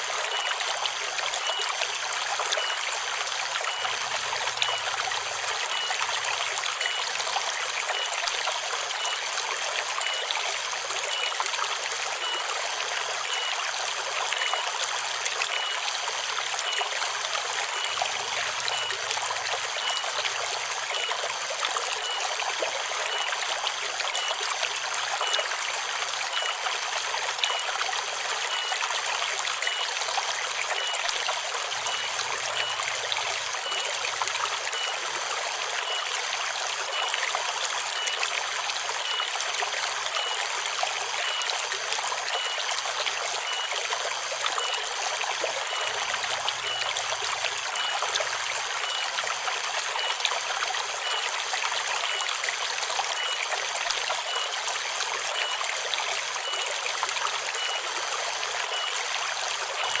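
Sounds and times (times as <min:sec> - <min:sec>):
river water flowing: 0:00.0 - 1:00.0.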